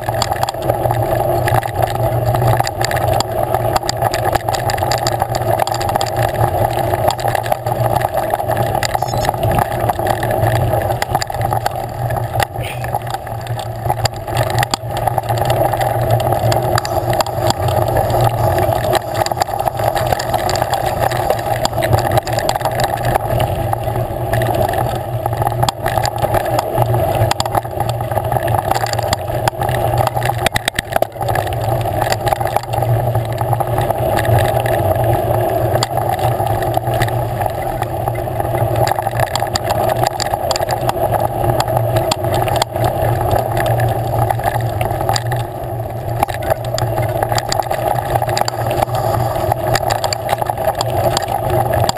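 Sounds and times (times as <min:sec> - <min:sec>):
mountain bike rattling on dirt trail: 0:00.0 - 0:51.9.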